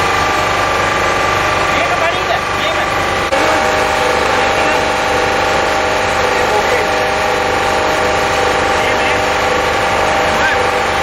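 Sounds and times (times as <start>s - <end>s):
large diesel engine running: 0.0s - 11.0s.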